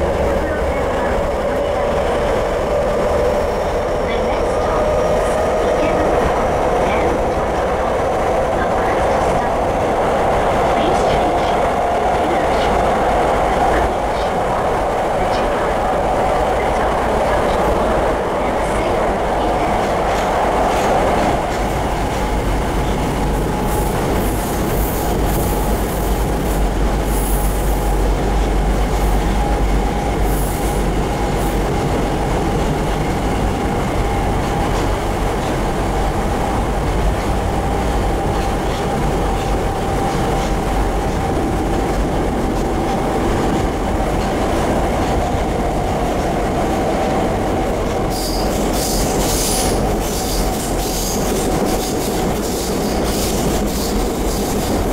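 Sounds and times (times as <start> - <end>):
train wheels and motors rumbling: 0.0 - 54.9.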